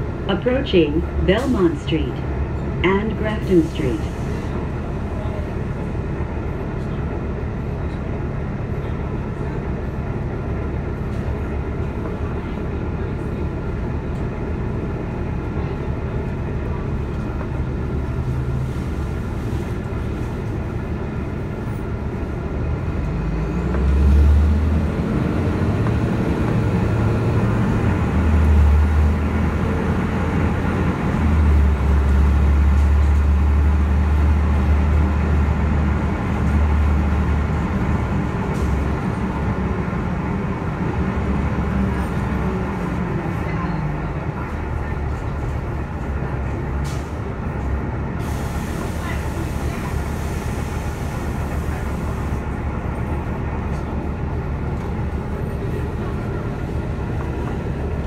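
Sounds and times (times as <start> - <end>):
bus engine idling and revving: 0.0 - 58.0.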